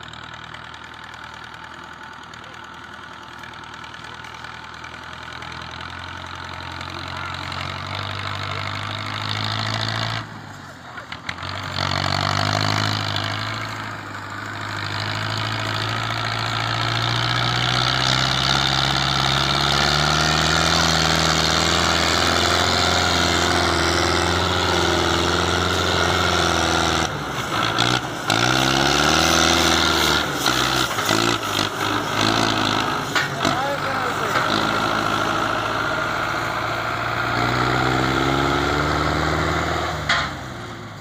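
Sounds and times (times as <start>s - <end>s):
tractor diesel engine under load: 0.0s - 41.0s.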